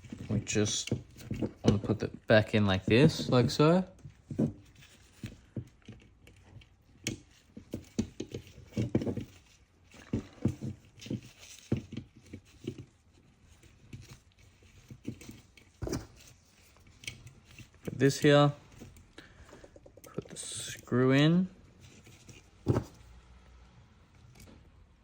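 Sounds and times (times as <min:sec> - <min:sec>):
plastic parts clicking and tapping: 0:00.0 - 0:20.9.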